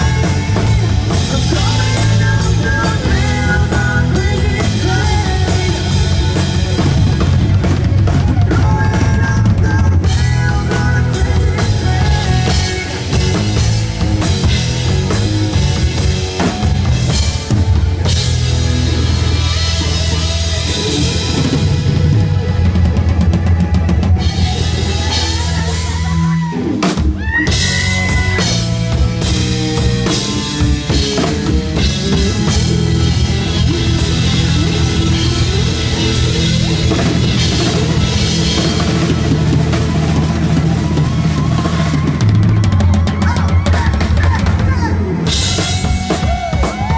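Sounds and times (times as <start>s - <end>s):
bass guitar: 0.0s - 46.9s
drum kit: 0.0s - 46.9s
electric guitar lead: 0.0s - 46.9s.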